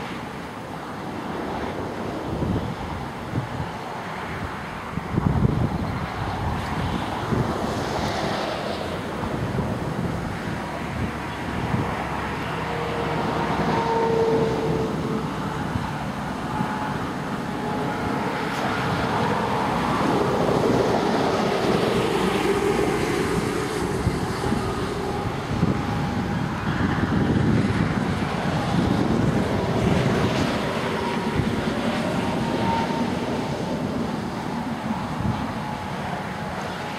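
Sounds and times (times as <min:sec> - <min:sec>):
gusty wind on microphone: 0:00.0 - 0:36.9.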